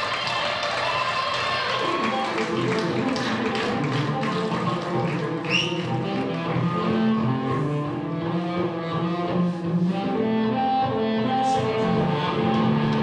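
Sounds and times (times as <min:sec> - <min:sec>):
slow instrumental music: 0:02.3 - 0:13.0.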